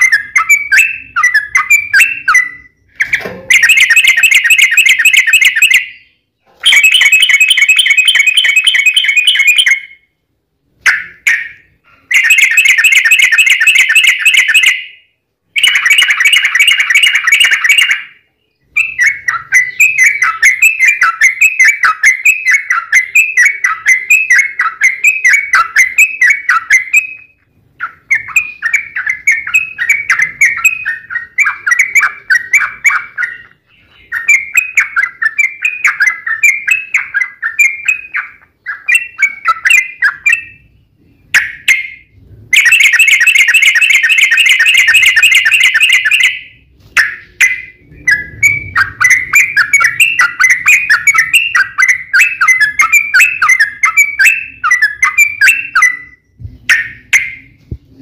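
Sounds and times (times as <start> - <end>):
bird rapid trill: 0.0 - 10.1, 10.8 - 15.0, 15.6 - 40.7, 41.3 - 57.6
bird chirping song: 0.0 - 58.0.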